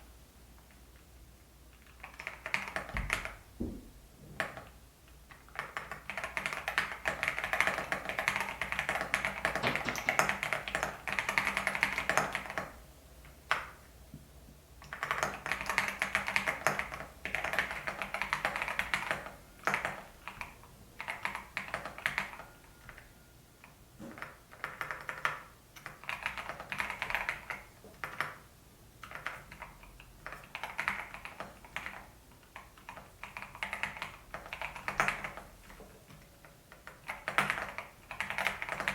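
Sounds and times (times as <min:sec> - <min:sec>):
mechanical keyboard typing: 0:01.8 - 0:03.4, 0:05.3 - 0:12.8, 0:14.8 - 0:23.0, 0:24.1 - 0:28.4, 0:29.0 - 0:38.9.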